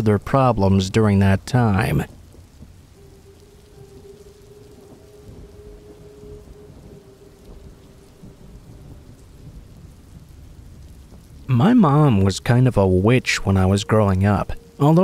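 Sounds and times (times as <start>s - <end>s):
faint steady tone: 0.0s - 15.0s
steady rain: 0.0s - 15.0s
thunder rumbling: 0.0s - 15.0s.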